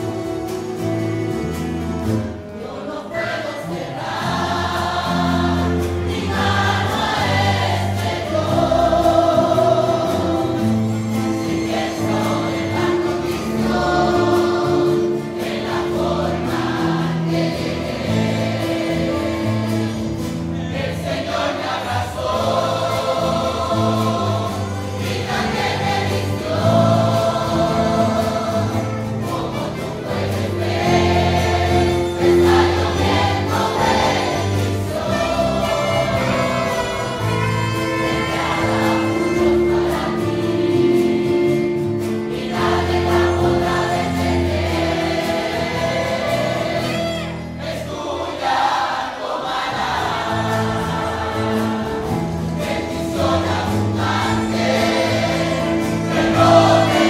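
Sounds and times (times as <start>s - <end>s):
guitars and mandolins playing: 0.0s - 48.4s, 49.6s - 57.0s
mixed choir singing a hymn: 0.0s - 57.0s.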